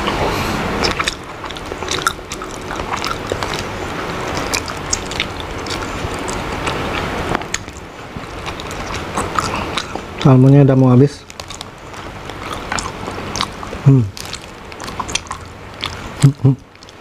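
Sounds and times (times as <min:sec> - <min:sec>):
lip smacks: 0:00.0 - 0:10.4, 0:11.2 - 0:17.0
steady low hum: 0:00.0 - 0:17.0
wet chewing: 0:00.0 - 0:17.0.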